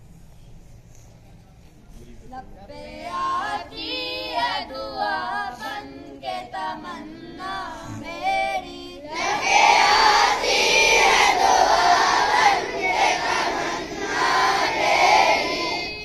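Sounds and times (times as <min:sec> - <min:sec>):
boys singing a chant: 0:02.7 - 0:16.0
children singing in unison: 0:02.9 - 0:16.0.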